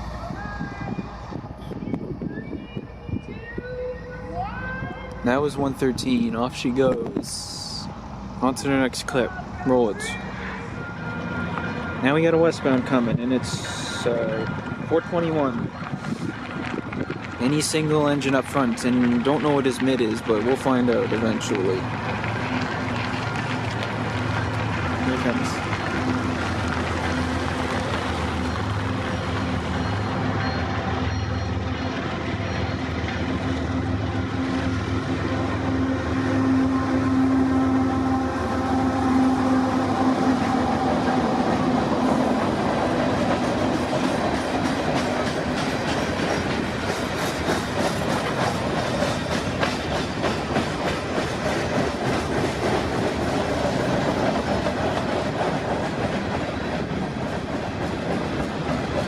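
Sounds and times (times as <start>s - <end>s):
diesel locomotive engine droning: 0.0s - 59.0s
freight cars rumbling: 0.0s - 59.0s.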